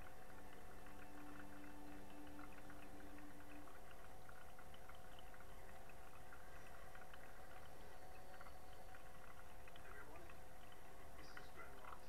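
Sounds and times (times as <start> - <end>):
steady hum: 0.0 - 12.0
water bubbling and trickling: 0.0 - 12.0.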